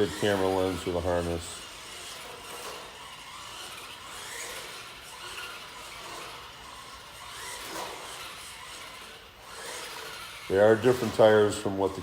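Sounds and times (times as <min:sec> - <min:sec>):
toy truck motor whirring: 0:00.0 - 0:12.0.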